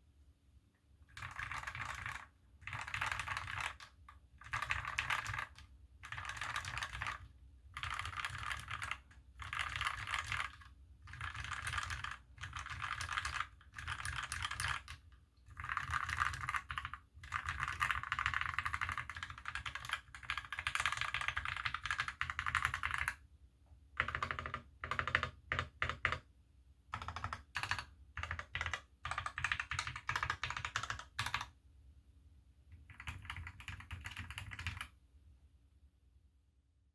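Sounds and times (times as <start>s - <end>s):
mechanical keyboard typing: 1.1s - 23.2s, 24.0s - 26.3s, 26.9s - 31.5s, 32.7s - 35.0s.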